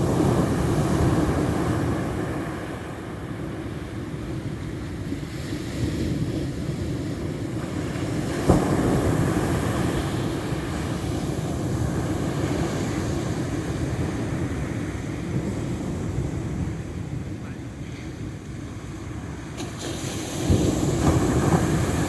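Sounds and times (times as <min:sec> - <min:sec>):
waves breaking and washing in: 0:00.0 - 0:22.0
wind buffeting microphone: 0:00.0 - 0:22.0.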